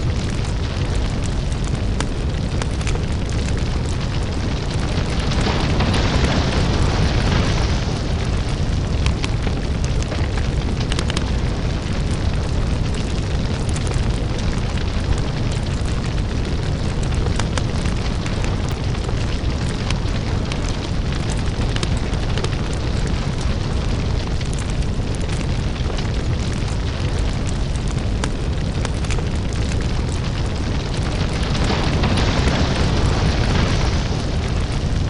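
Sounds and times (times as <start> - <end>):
deep steady rumble: 0.0 - 35.0
fire crackles and pops: 0.0 - 35.0.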